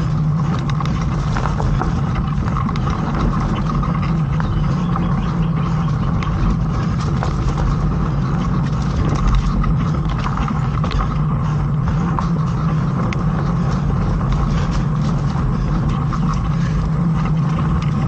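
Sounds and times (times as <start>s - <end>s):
bike clicks and rattles: 0.0s - 18.0s
wind and tyres rumbling: 0.0s - 18.0s.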